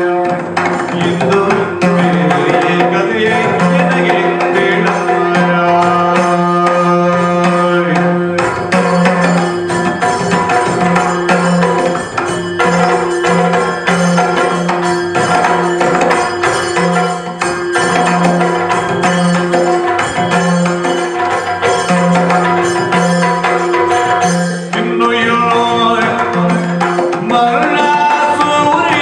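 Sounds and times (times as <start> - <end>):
drums beating fast rhythms: 0.0 - 29.0
jingling metal percussion: 0.0 - 29.0.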